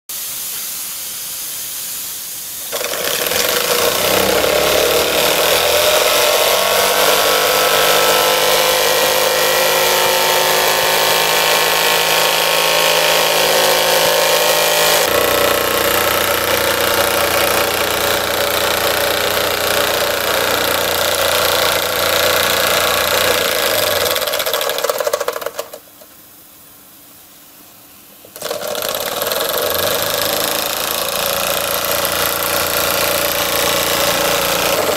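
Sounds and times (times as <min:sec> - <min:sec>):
model steam engine whirring: 0:02.6 - 0:25.7, 0:28.3 - 0:34.9.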